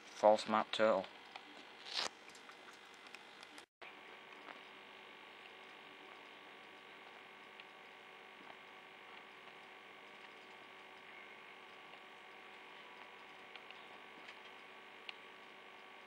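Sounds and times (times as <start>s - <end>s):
faint steady hum and hiss: 0.1s - 16.0s.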